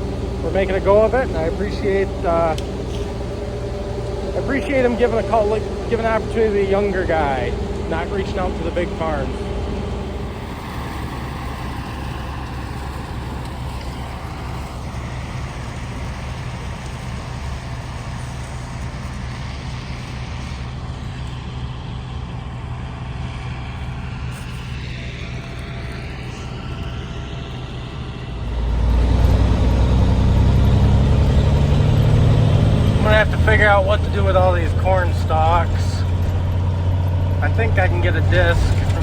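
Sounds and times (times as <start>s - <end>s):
road noise: 0.0s - 39.0s
vehicle engine hum: 0.0s - 39.0s.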